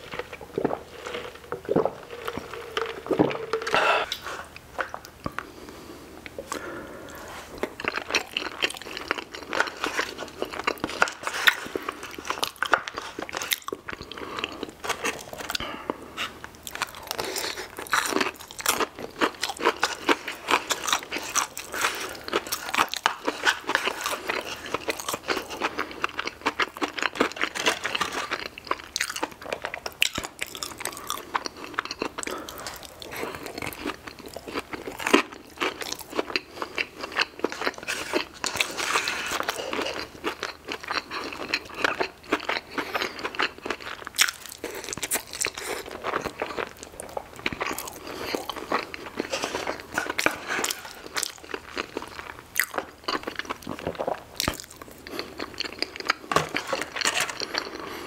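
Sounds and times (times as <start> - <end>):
person chewing and crunching: 0.0 - 5.6, 6.3 - 58.0.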